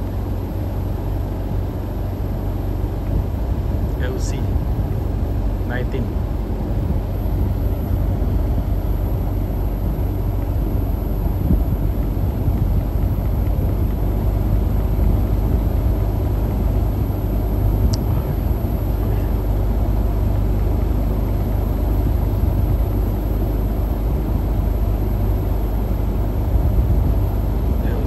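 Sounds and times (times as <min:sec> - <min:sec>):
machinery rumbling: 0:00.0 - 0:28.0.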